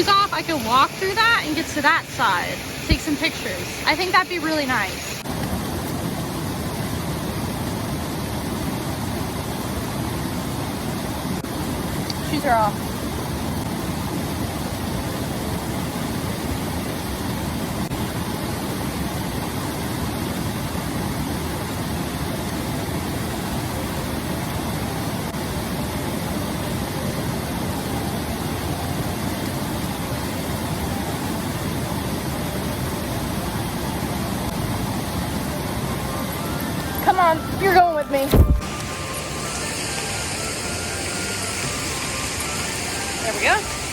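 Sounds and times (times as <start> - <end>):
waterfall roaring: 0.0 - 43.9.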